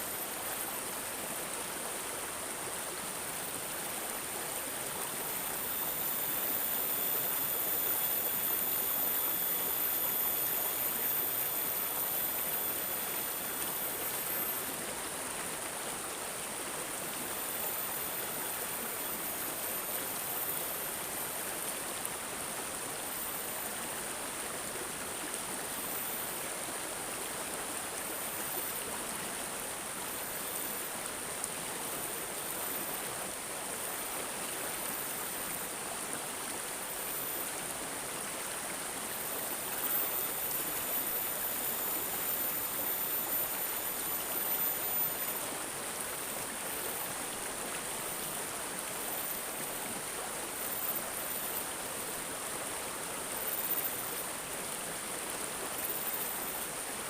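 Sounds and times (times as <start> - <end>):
stream gurgling and babbling: 0.0 - 57.0.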